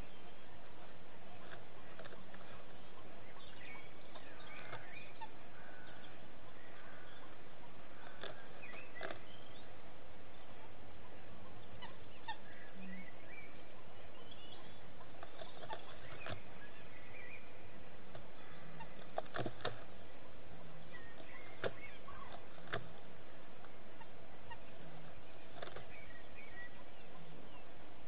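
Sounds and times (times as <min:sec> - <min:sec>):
faint bird chirps: 0:00.0 - 0:28.0
microphone hiss: 0:00.0 - 0:28.0.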